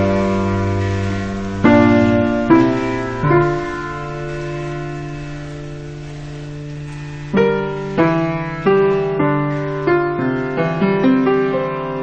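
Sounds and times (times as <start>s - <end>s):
calm piano music: 0.0s - 12.0s.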